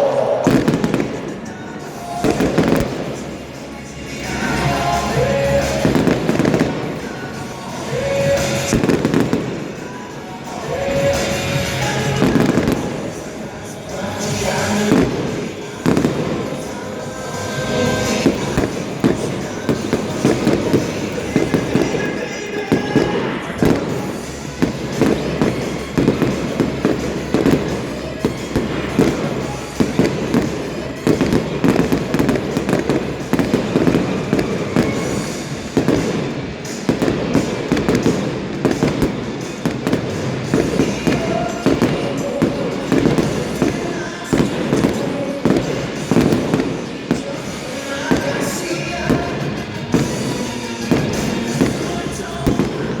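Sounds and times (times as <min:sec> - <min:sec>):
fireworks bursting: 0:00.0 - 0:53.0
music playing: 0:00.0 - 0:53.0.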